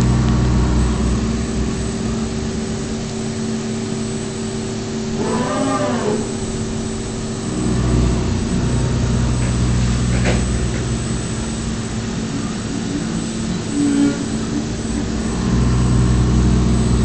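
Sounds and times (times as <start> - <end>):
low rumble: 0.0 - 5.3, 5.9 - 17.0
machine hum: 0.0 - 17.0.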